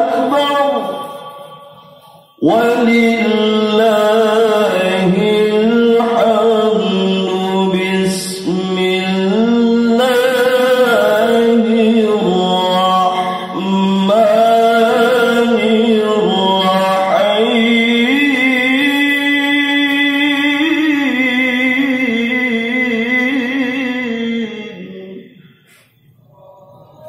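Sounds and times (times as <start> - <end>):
man reciting melodically over loudspeaker: 0.0 - 27.0.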